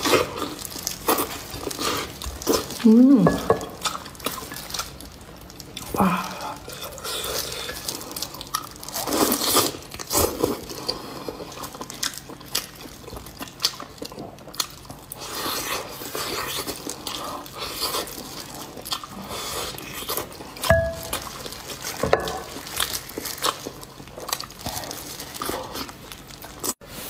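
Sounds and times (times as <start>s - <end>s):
person chewing and smacking: 3.4s - 6.0s, 6.6s - 26.8s.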